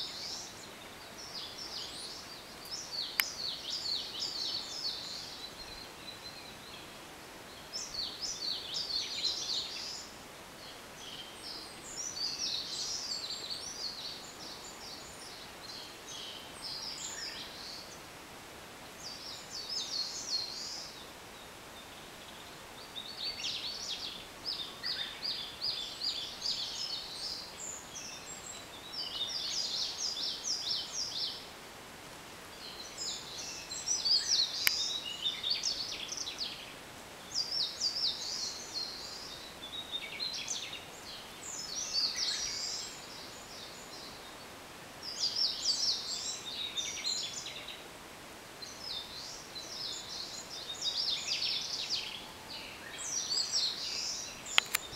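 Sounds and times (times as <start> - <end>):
songbirds singing: 0.0 - 54.9
steady low background hiss: 0.0 - 54.9.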